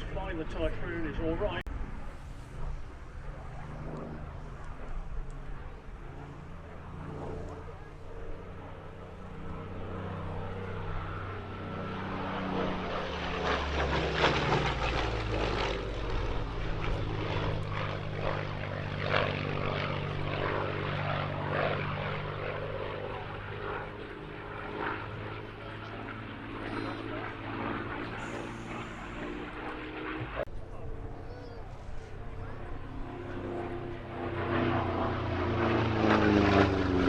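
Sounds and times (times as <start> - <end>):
propeller plane flying past: 0.0 - 37.0.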